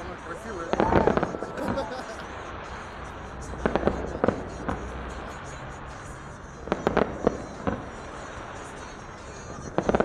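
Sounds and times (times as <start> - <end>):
background rumble: 0.0 - 10.0
fireworks bangs: 0.0 - 10.0.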